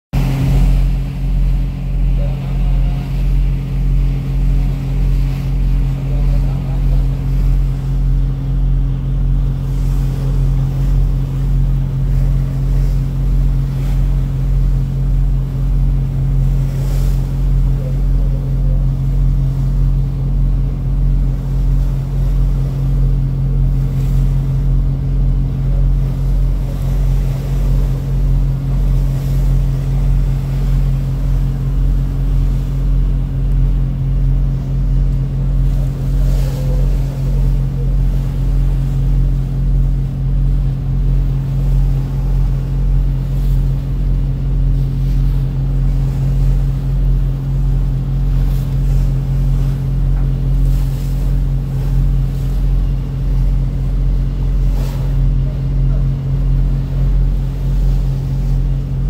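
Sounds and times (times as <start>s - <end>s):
boat engine droning: 0.1s - 59.0s.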